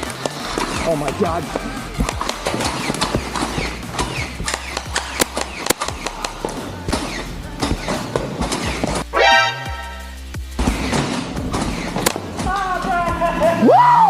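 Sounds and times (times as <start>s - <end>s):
steady low bass: 0.0s - 7.8s, 8.8s - 13.8s.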